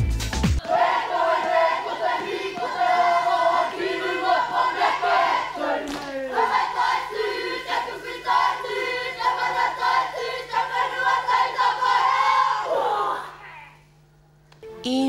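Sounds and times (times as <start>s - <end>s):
group singing and chanting in unison: 0.6s - 13.4s.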